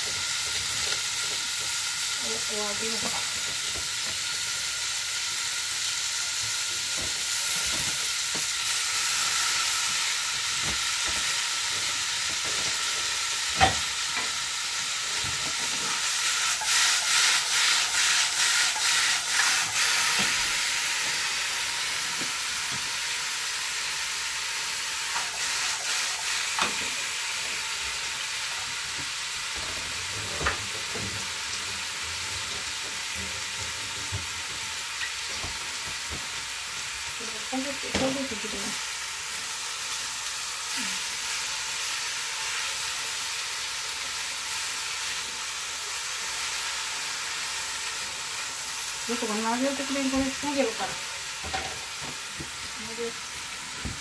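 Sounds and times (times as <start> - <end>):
patties sizzling in a frying pan: 0.0 - 54.0.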